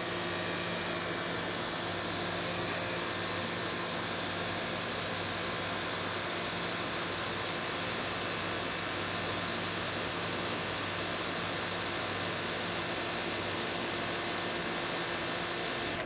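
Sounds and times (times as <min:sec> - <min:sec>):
motor and pump hum: 0:00.0 - 0:16.0.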